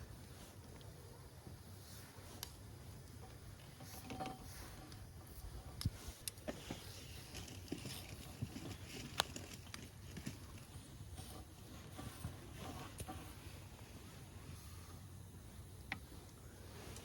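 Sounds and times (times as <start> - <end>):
campfire crackling and popping: 2.2 - 17.0.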